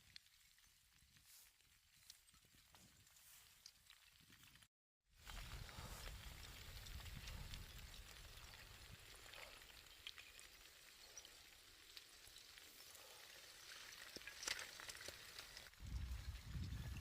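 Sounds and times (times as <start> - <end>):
lava crackling and ticking: 0.0 - 17.0.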